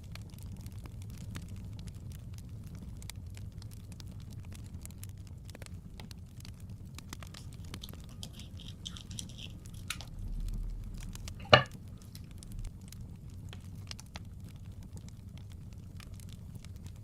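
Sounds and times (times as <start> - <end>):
crackling fireplace: 0.0 - 17.0.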